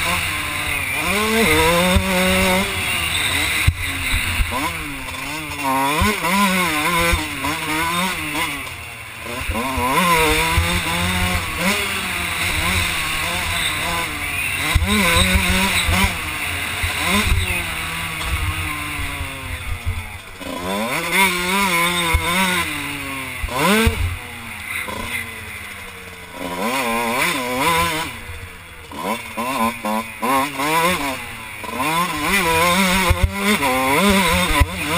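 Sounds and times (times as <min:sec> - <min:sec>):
motocross engine revving: 0:00.0 - 0:34.9.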